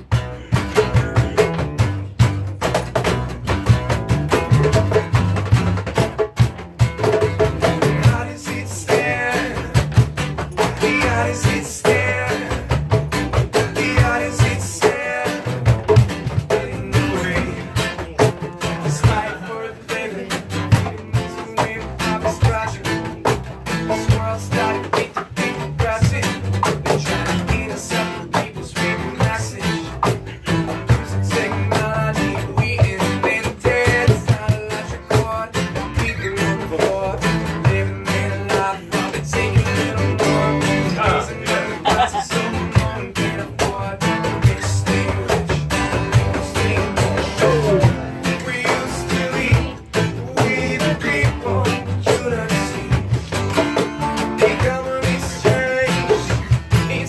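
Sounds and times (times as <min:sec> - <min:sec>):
live band with strummed guitar: 0:00.0 - 0:57.0.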